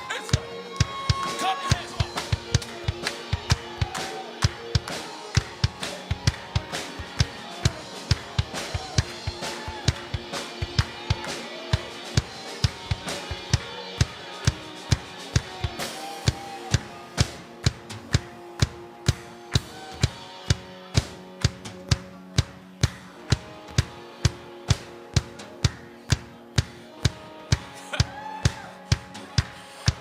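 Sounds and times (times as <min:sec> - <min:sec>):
drum kit fast beat: 0:00.0 - 0:30.0.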